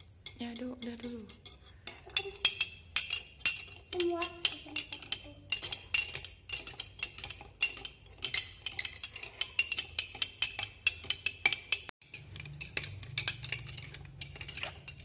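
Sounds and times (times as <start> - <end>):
metal spoons clinking against glass: 0.0 - 15.0.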